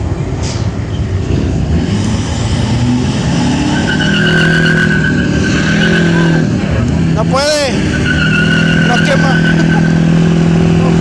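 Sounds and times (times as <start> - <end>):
car engine revving: 1.2 - 11.0
tires squealing: 1.7 - 11.0.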